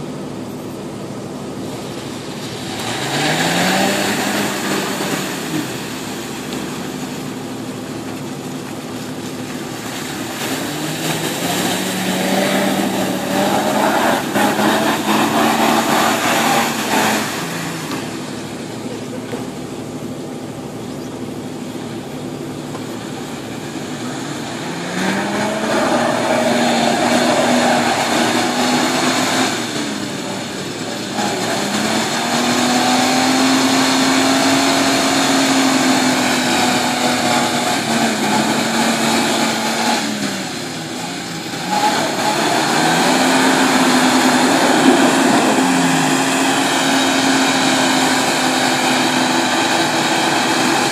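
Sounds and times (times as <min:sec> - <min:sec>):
engine revving: 0:00.0 - 0:50.9
tyres churning mud and water: 0:00.0 - 0:50.9.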